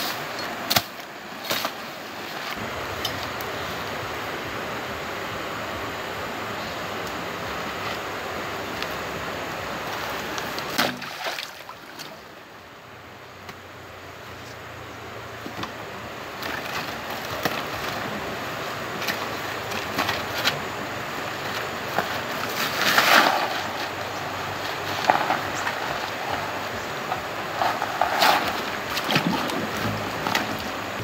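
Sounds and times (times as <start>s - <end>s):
steady rushing outdoor noise: 0.0s - 31.0s.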